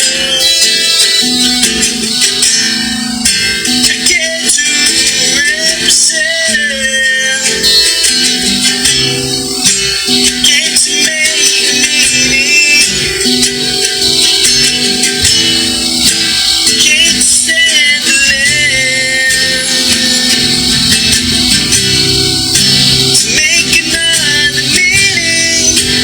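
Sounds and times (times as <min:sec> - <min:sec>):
held tones: 0:00.0 - 0:26.0
plucked guitar: 0:00.0 - 0:26.0
rattling percussion: 0:00.0 - 0:26.0
wavering vocal: 0:00.0 - 0:26.0.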